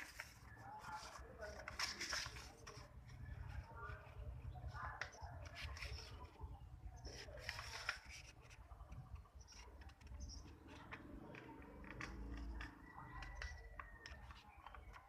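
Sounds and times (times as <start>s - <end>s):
paper crinkling and folding: 0.0s - 15.0s.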